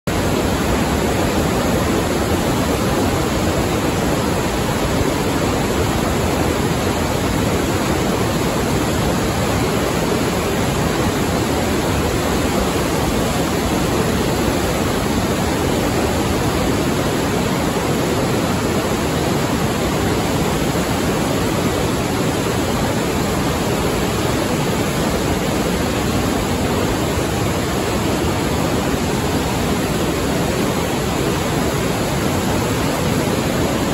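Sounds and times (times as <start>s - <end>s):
river rushing through gorge: 0.1s - 33.9s.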